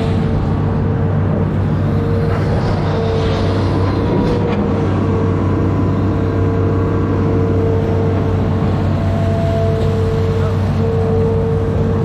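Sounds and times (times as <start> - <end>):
diesel engine running under load: 0.0 - 12.0
steady whine: 0.0 - 12.0.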